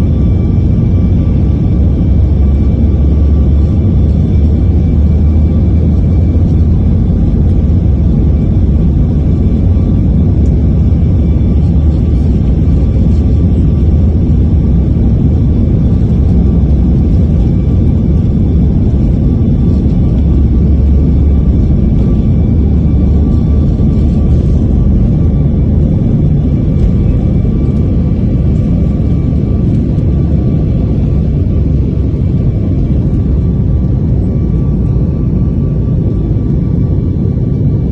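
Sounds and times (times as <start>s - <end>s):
faint engine whine: 0.0s - 37.9s
jet engine rumble inside cabin: 0.0s - 37.9s.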